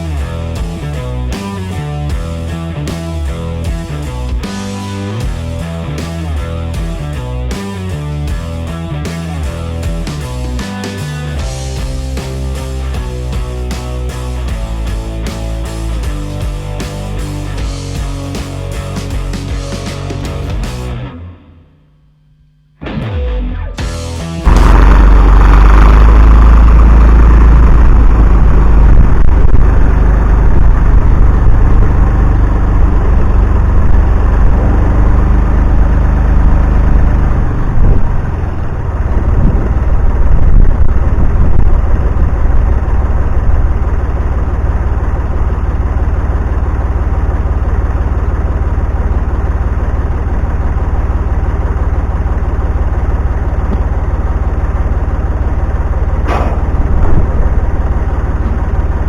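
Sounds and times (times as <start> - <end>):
engine rumbling: 0.0 - 22.5, 23.8 - 59.0.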